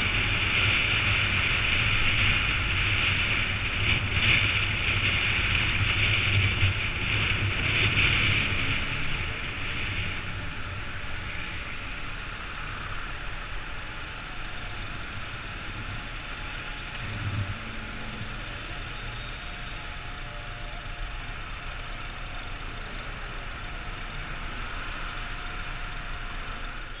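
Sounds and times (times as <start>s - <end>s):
traffic engines idling: 0.0s - 27.0s.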